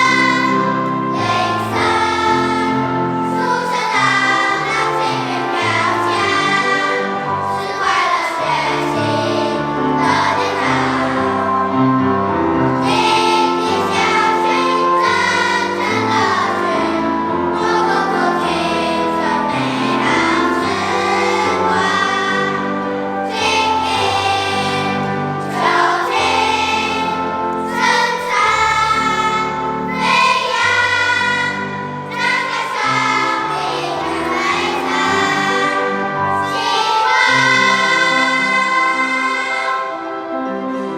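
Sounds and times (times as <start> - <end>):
children's choir singing: 0.0 - 40.9
instrumental accompaniment: 0.0 - 40.9.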